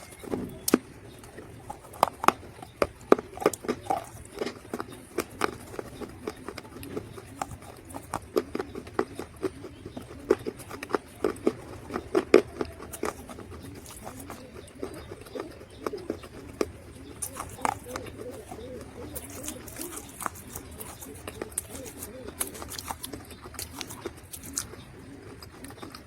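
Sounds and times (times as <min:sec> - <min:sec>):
dry mud crunching and crumbling: 0:00.0 - 0:26.0.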